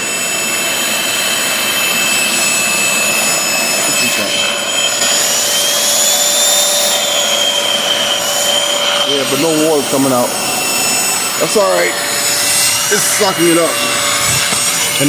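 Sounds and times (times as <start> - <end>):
carpet washer suction whining: 0.0 - 15.0.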